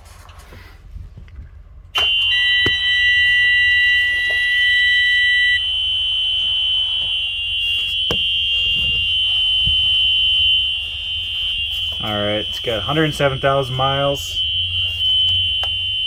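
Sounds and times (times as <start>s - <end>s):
high-pitched warning buzzer tone: 2.0s - 16.0s
lower electronic tone: 2.0s - 16.0s.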